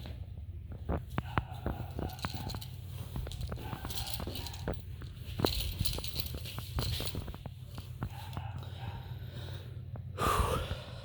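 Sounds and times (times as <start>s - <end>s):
kittens scampering and tapping: 0.0s - 9.2s
steady low hum: 0.0s - 11.0s.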